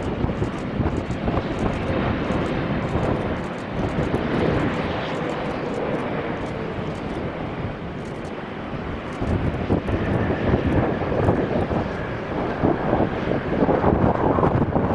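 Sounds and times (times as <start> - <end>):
jet airliner engine noise: 0.0 - 14.9.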